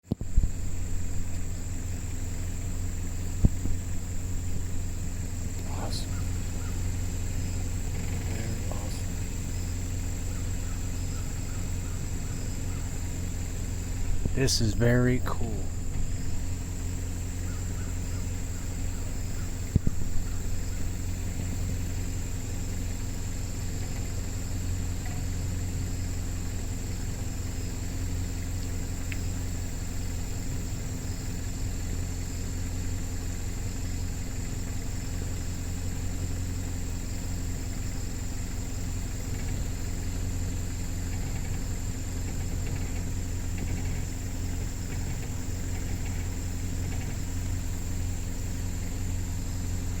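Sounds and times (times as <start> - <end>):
engine idling: 0.0 - 50.0
faint high whine: 0.1 - 50.0.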